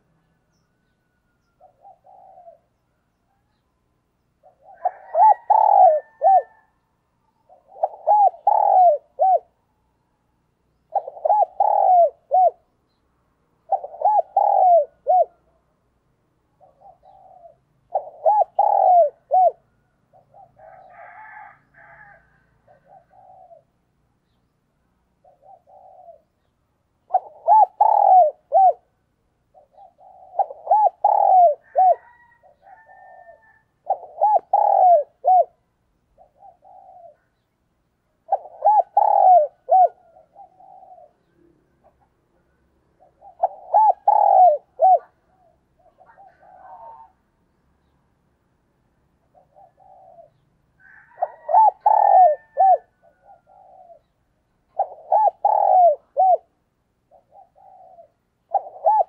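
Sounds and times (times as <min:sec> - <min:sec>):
dove cooing: 0:00.8 - 0:02.8, 0:04.4 - 0:09.6, 0:10.8 - 0:13.0, 0:13.6 - 0:15.6, 0:16.5 - 0:23.8, 0:25.2 - 0:37.5, 0:38.1 - 0:47.9, 0:49.2 - 0:59.0.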